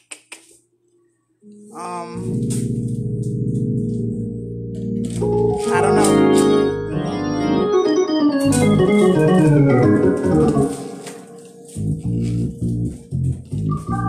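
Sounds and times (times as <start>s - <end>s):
organ playing: 1.5s - 14.0s.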